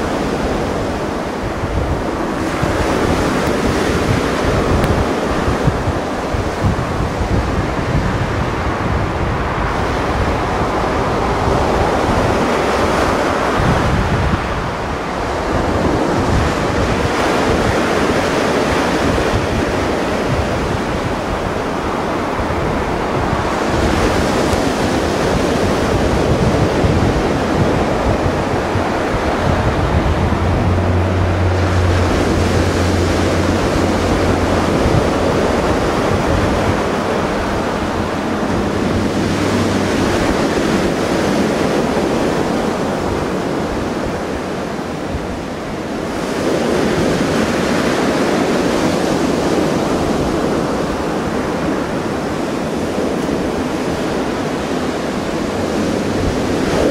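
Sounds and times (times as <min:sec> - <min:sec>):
sea waves breaking: 0:00.0 - 0:56.9
wind buffeting the microphone: 0:00.0 - 0:56.9.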